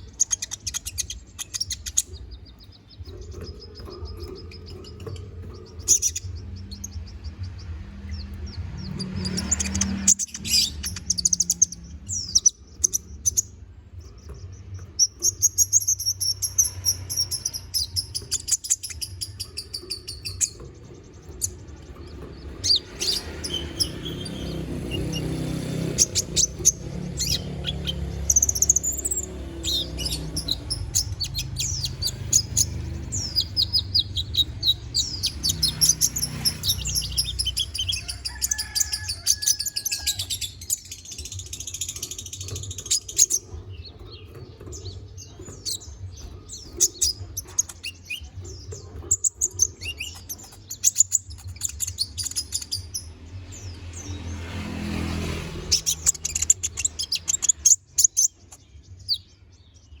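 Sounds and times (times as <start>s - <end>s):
bird chirps and trills: 0.0s - 60.0s.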